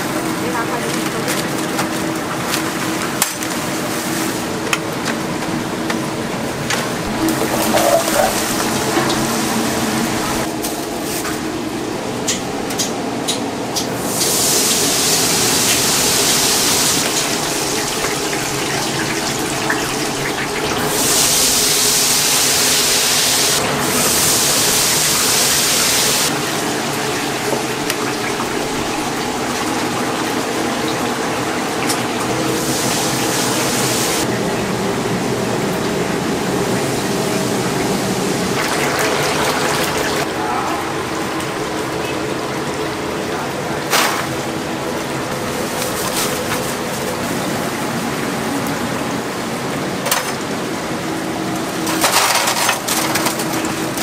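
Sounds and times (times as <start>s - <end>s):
chicken deep-frying in hot oil: 0.0s - 13.0s, 13.8s - 54.0s.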